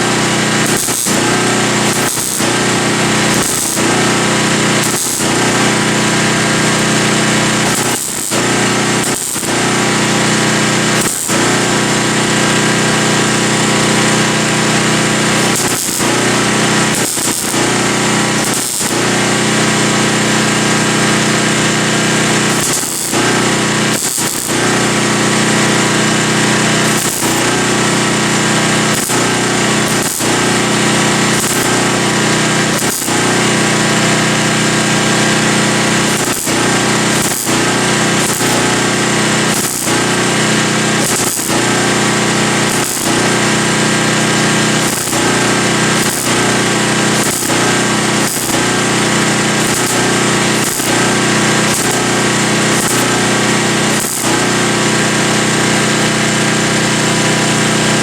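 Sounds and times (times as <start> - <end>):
welder crackling and buzzing: 0.0 - 58.0.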